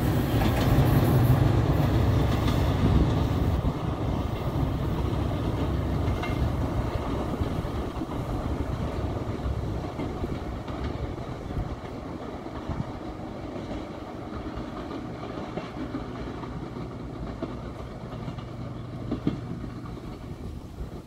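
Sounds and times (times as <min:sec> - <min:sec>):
train rumbling past: 0:00.0 - 0:21.0
wheel clacks over rail joints: 0:00.3 - 0:21.0.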